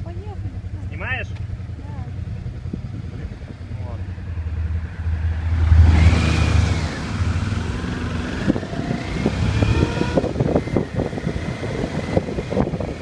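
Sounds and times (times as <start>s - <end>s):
motorcycle engine accelerating: 0.0s - 13.0s
wind buffeting microphone: 1.8s - 13.0s.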